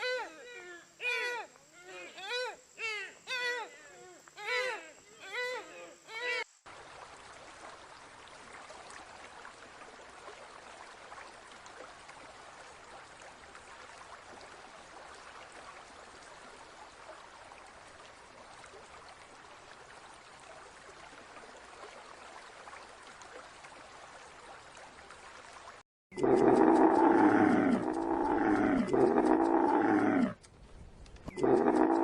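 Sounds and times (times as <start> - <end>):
faint rushing water: 0.0 - 32.0.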